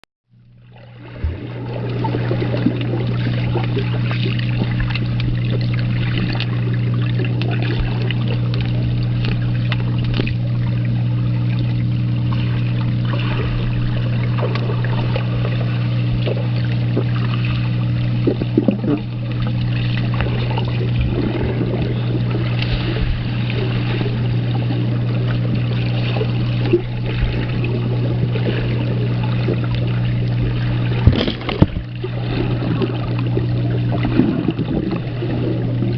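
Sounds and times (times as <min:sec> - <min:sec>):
low motor hum: 0:00.3 - 0:35.9
water trickling and splashing: 0:00.5 - 0:35.9.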